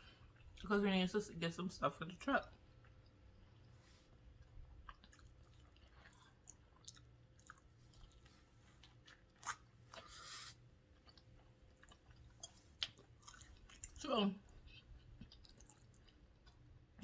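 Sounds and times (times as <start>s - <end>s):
person chewing food: 2.5s - 17.0s.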